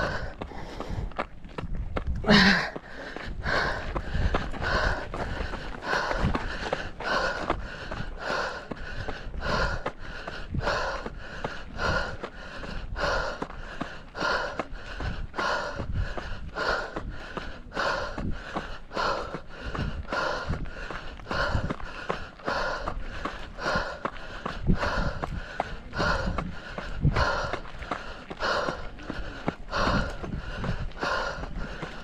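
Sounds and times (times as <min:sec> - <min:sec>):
hard rhythmic breathing: 0:00.0 - 0:32.0.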